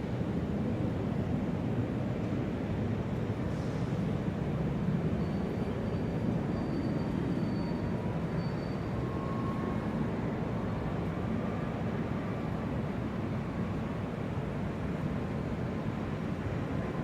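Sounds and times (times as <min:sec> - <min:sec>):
rumble of engines and hall noise: 0:00.0 - 0:17.0.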